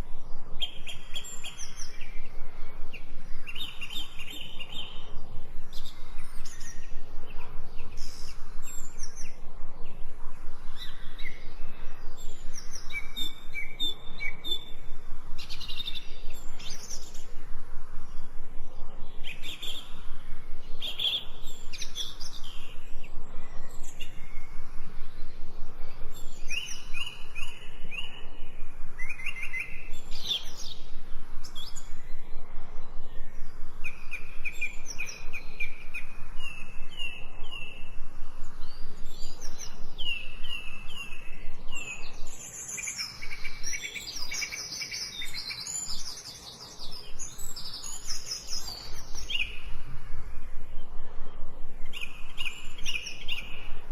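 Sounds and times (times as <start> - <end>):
songbirds chirping and whistling: 0.0 - 53.9.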